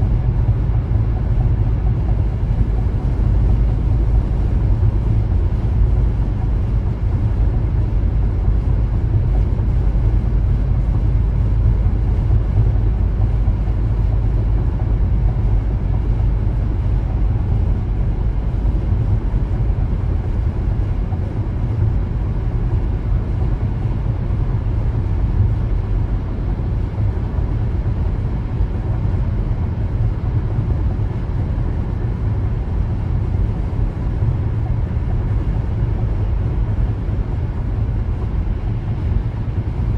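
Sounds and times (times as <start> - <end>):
car road noise inside cabin: 0.0 - 39.9.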